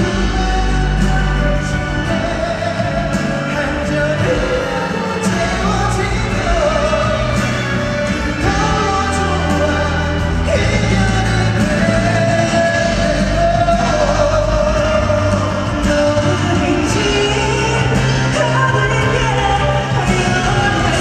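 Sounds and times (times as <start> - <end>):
backing music with bass line: 0.0 - 21.0
man singing into microphone: 0.0 - 21.0.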